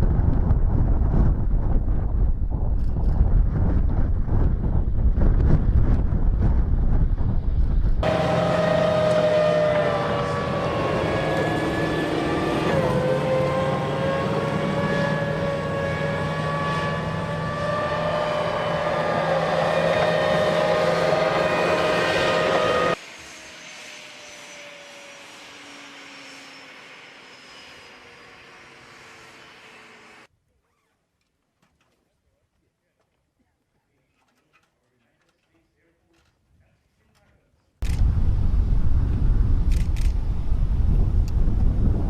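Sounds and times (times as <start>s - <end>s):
aircraft engine whining: 0.1s - 30.3s, 37.8s - 42.0s.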